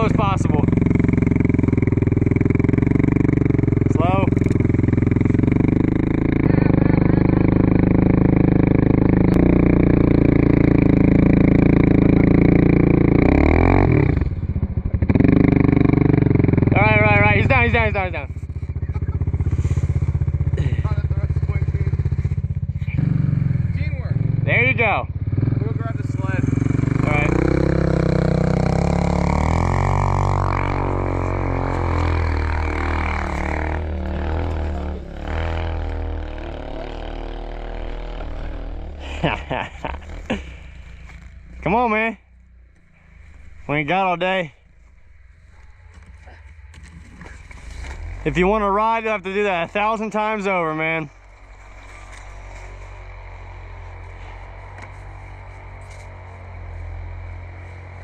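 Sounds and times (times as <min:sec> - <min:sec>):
small motorbike engine running: 0:00.0 - 0:41.4, 0:51.2 - 0:58.0.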